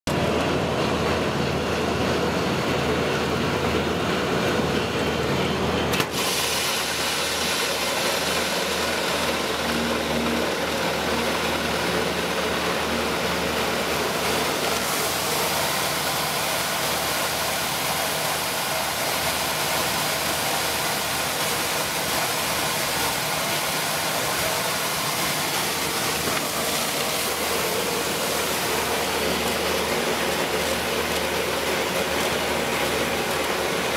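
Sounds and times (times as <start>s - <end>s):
milling machine running: 0.1s - 33.9s.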